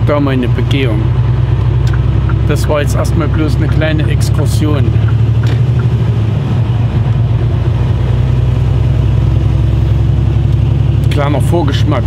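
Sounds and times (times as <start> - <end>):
truck diesel engine droning: 0.0 - 12.0
tyre and road noise: 0.0 - 12.0.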